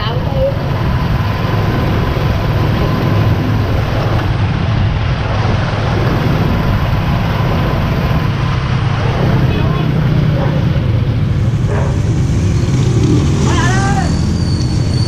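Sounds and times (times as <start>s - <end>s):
wind noise on microphone: 0.0s - 13.4s.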